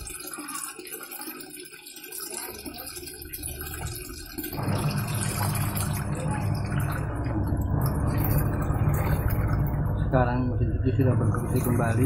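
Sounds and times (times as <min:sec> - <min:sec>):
washing machine motor churning water: 0:00.0 - 0:12.0
water pouring into washing machine: 0:00.0 - 0:12.0.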